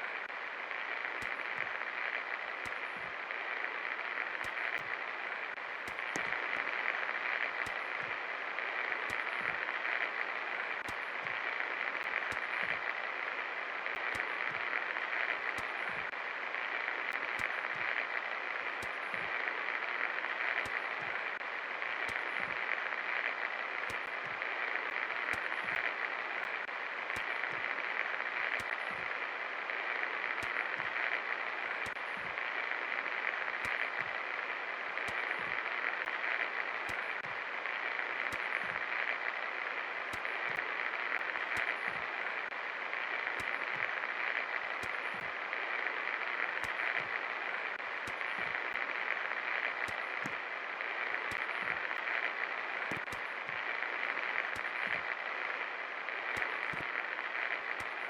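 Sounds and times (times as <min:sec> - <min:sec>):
faint clicks: 0:00.0 - 0:58.0.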